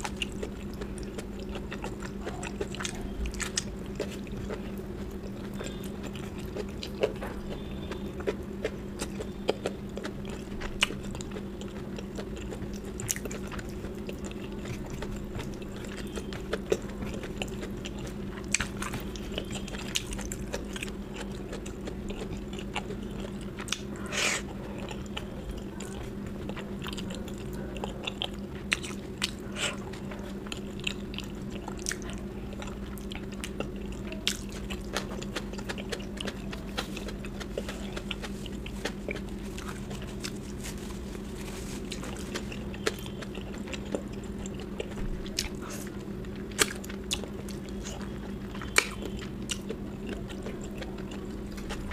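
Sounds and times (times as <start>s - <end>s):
chewing and biting food: 0.0s - 51.9s.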